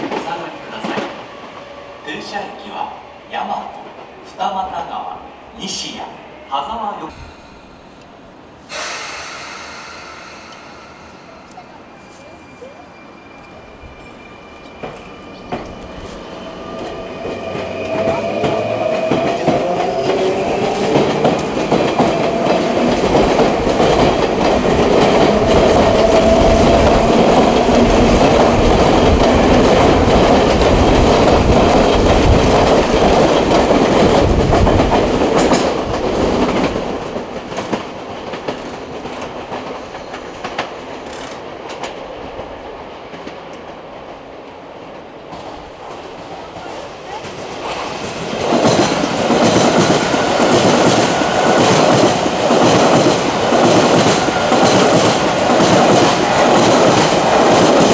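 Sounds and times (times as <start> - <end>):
train rumble: 7.1 - 57.9.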